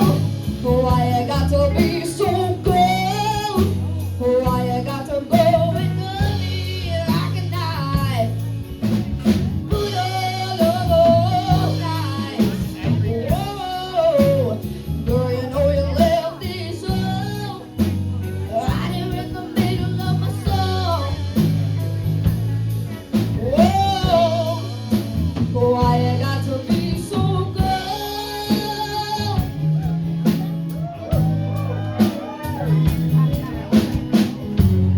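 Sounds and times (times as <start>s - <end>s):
live rock band playing: 0.0s - 34.9s
person singing: 0.0s - 34.9s.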